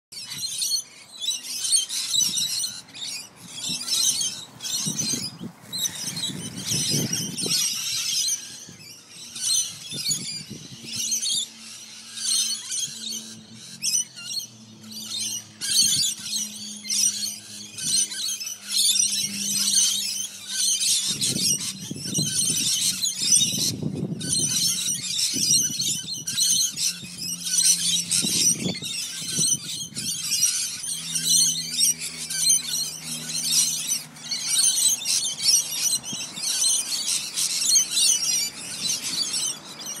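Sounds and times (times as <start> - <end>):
flock of birds chattering: 0.1 - 40.0.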